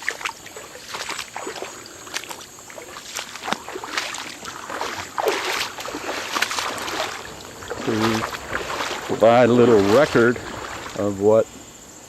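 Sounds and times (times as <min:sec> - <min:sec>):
footsteps wading through water: 0:00.0 - 0:11.4.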